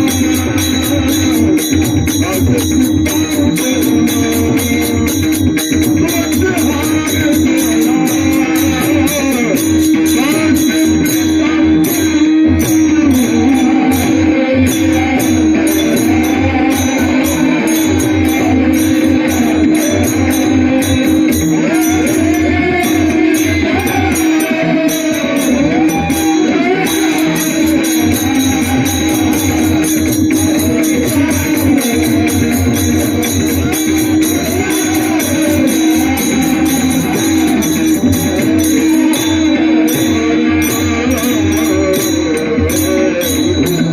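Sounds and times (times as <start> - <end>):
hand cymbals jingling: 0.0 - 43.9
man singing long ornamented notes: 0.0 - 43.9
pakhawaj drum: 0.0 - 43.9
steady drone: 0.0 - 43.9.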